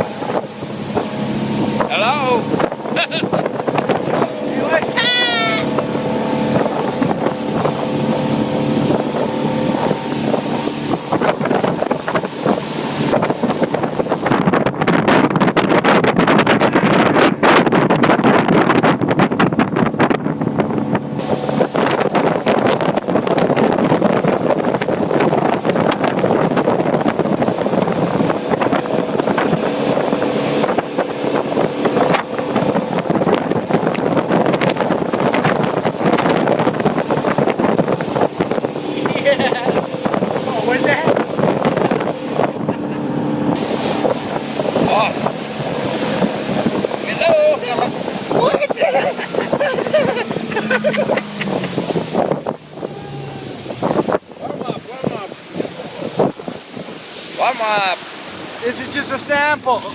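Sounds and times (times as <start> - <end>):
motorboat engine humming: 0.0 - 59.9
wind buffeting microphone: 0.0 - 59.9.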